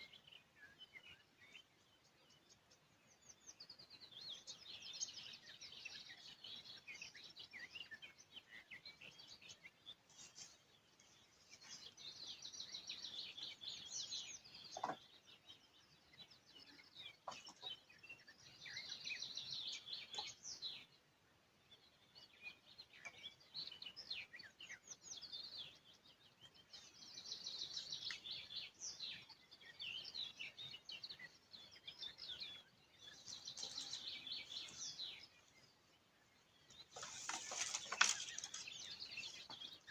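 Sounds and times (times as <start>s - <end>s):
faint outdoor background noise: 0.0s - 39.9s
songbirds singing: 0.0s - 39.9s.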